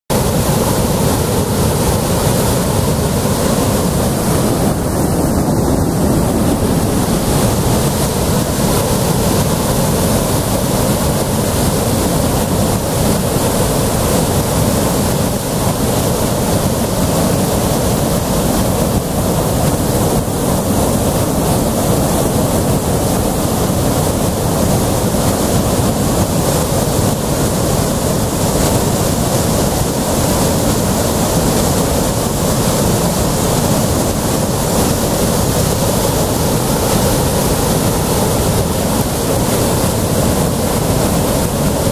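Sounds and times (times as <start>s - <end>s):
river rapids rushing: 0.1s - 41.9s.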